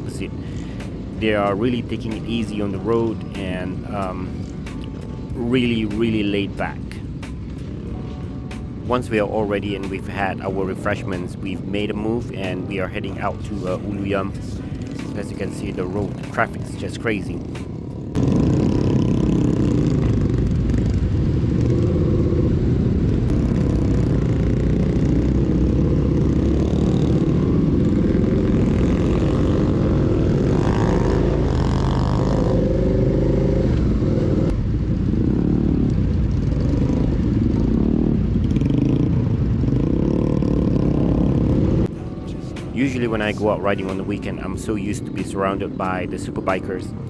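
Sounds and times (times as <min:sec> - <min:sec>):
motorcycle engine running: 0:00.0 - 0:46.8
wind and road noise: 0:00.0 - 0:47.0.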